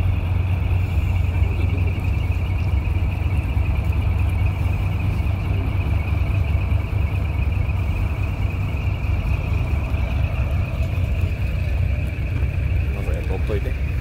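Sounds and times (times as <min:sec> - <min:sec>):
diesel truck engine rumbling: 0:00.0 - 0:14.0
high-pitched whine: 0:00.0 - 0:14.0.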